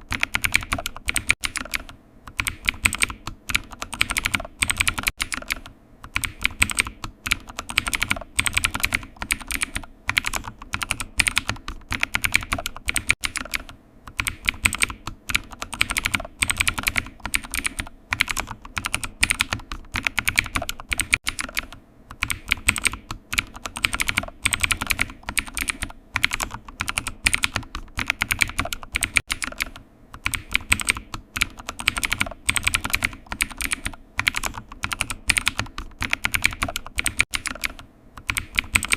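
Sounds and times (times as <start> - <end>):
computer keyboard typing: 0.0 - 38.9.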